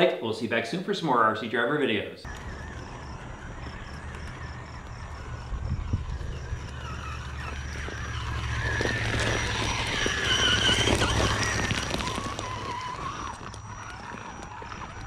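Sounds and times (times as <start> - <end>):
stones crunching under tyres: 2.2 - 15.0
electric motor whine: 2.3 - 15.0.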